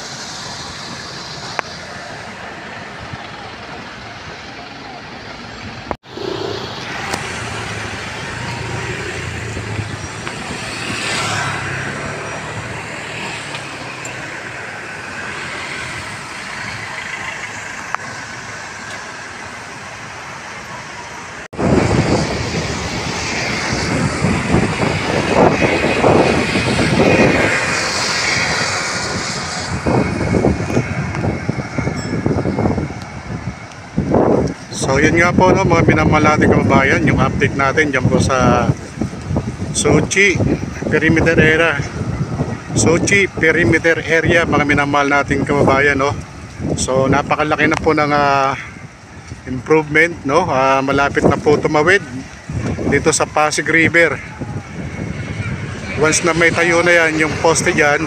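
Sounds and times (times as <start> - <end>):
rough surging noise: 0.0 - 58.0
urban traffic noise: 0.0 - 58.0.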